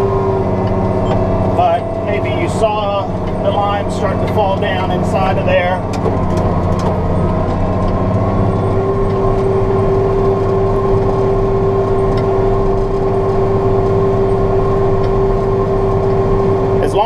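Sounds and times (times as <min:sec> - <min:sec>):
steady whine: 0:00.0 - 0:17.0
tractor diesel engine running: 0:00.0 - 0:17.0.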